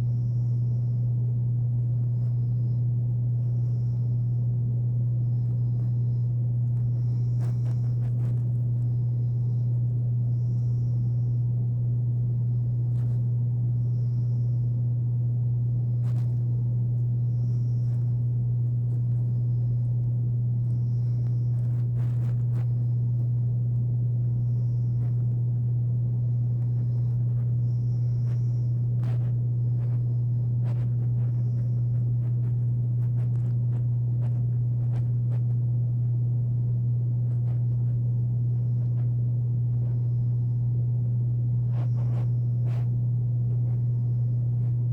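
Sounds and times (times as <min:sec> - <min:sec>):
air conditioner humming: 0:00.0 - 0:44.9.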